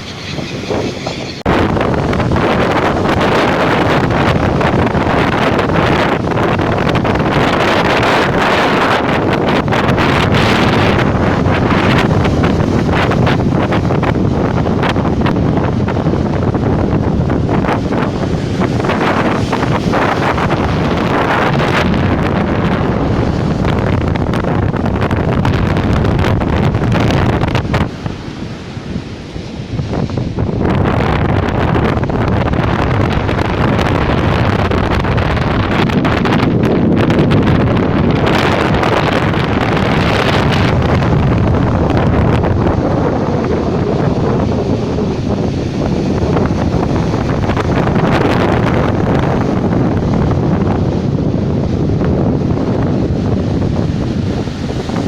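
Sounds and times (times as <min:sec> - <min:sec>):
sea surf: 0:00.0 - 0:55.0
wind buffeting microphone: 0:00.0 - 0:55.0.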